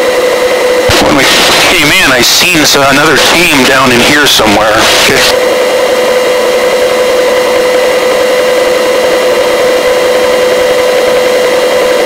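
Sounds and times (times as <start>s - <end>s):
mid-pitched whine: 0.0s - 12.0s
helicopter rushing noise: 0.1s - 12.0s.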